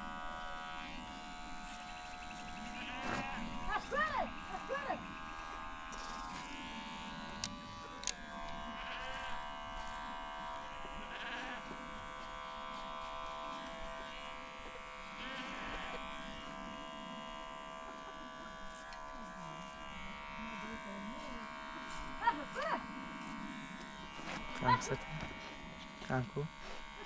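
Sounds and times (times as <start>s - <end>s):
electric hair clippers buzzing: 0.0s - 27.0s.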